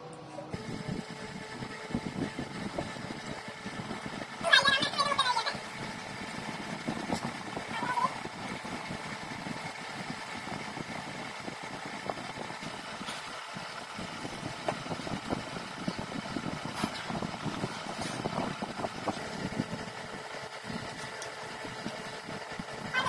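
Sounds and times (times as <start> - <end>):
mechanical engine running: 0.4 - 23.0.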